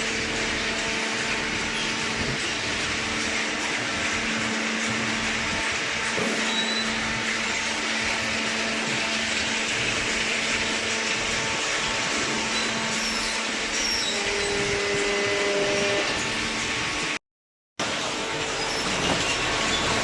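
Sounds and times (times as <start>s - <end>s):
machine humming: 0.0s - 17.2s.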